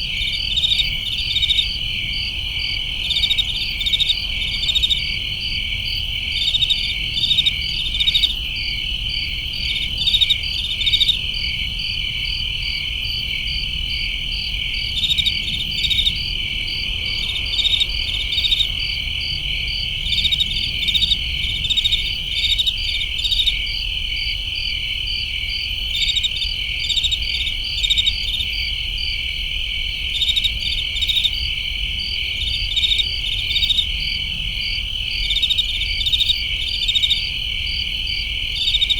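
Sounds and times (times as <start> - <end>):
crickets and insects chirping: 0.0 - 38.9
steady high insect trill: 0.0 - 38.9.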